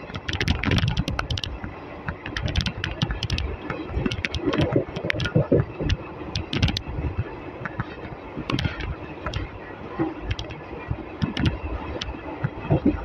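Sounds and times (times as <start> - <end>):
sharp clicks and knocks: 0.0 - 9.5, 10.2 - 10.6, 11.2 - 12.7
train wheels rumbling on track: 0.0 - 13.0.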